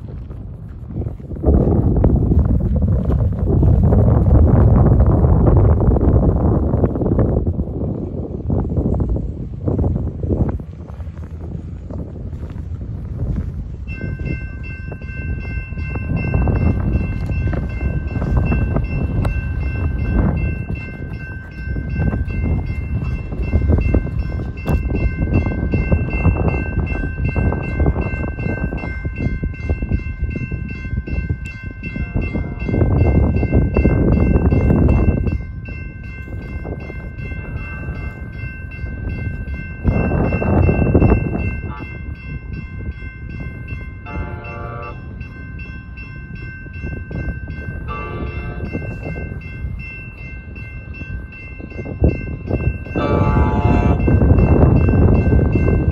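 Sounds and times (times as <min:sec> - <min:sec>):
wind rumble on microphone: 0:00.0 - 0:55.9
crossing warning bell ringing: 0:03.5 - 0:55.9.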